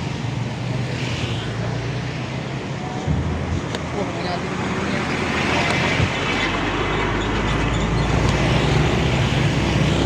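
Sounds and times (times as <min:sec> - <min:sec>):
rattling road noise: 0:00.0 - 0:10.0.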